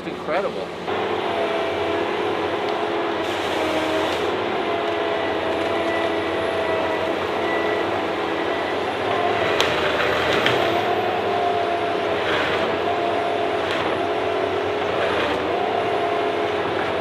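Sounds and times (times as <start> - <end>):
tree-cutting machine engine drone: 0.0 - 17.0
machine whining tone: 0.9 - 17.0.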